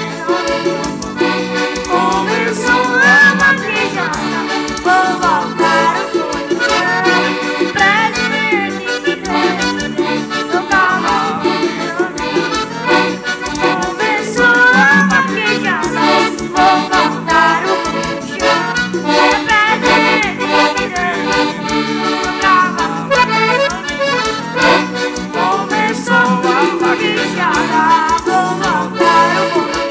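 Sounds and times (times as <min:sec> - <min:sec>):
accordion playing lively tune: 0:00.0 - 0:29.9.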